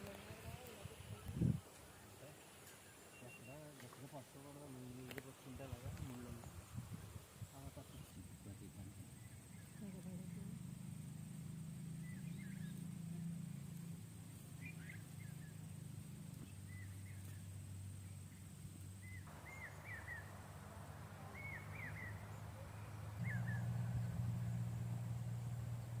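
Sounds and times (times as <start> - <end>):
birds chirping: 0.0 - 26.0
soft hiss: 0.0 - 26.0
steady low hum: 0.0 - 26.0.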